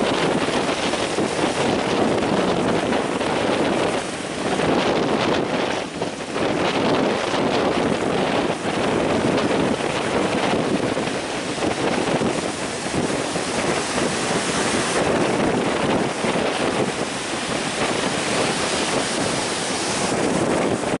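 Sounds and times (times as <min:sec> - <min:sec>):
surf crashing: 0:00.0 - 0:21.0
wind buffeting microphone: 0:00.0 - 0:21.0.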